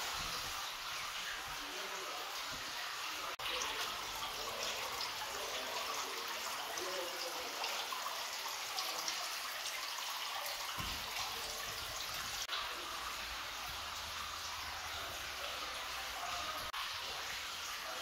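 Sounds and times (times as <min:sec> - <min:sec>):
fountain water trickling and splashing: 0:00.0 - 0:18.0.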